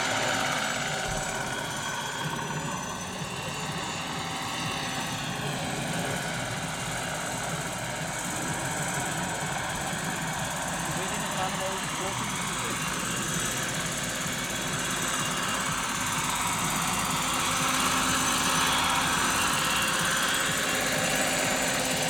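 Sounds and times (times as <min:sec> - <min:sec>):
model helicopter whine: 0:00.0 - 0:22.0
rotor beating: 0:00.0 - 0:22.0.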